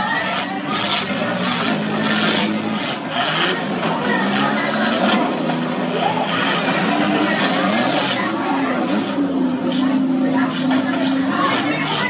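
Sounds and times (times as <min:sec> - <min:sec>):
car engines revving: 0:00.0 - 0:12.0
crowd voices: 0:00.0 - 0:12.0.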